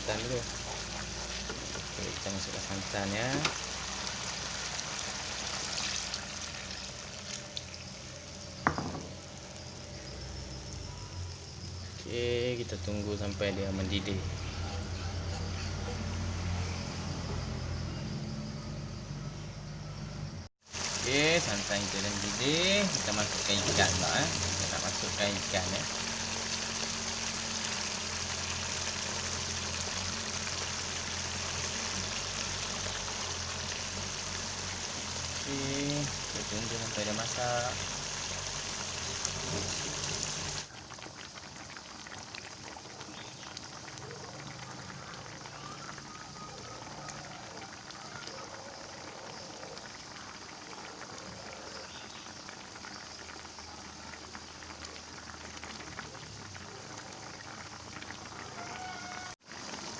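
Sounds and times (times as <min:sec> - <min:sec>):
curry bubbling in a pot: 0:00.0 - 0:12.0, 0:20.6 - 0:59.9.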